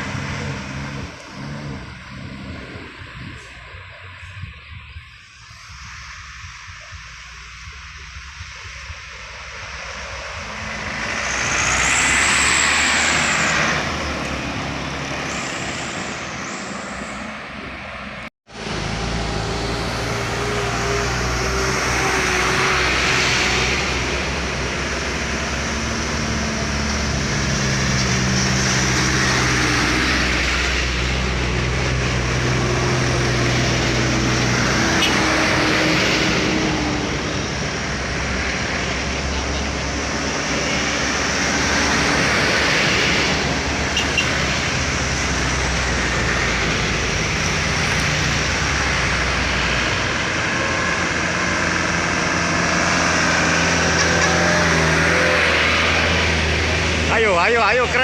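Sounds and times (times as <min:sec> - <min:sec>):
heavy vehicle engine under load: 0:00.0 - 0:04.5, 0:07.6 - 0:58.0
road and wind noise: 0:00.0 - 0:58.0.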